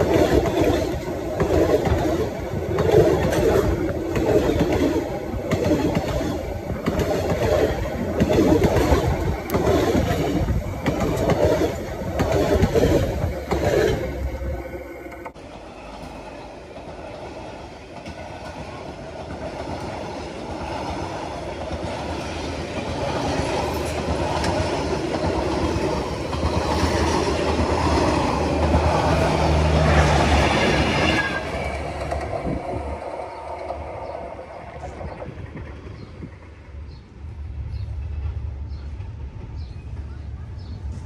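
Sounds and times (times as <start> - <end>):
train wheels clattering on rails: 0.0 - 37.1.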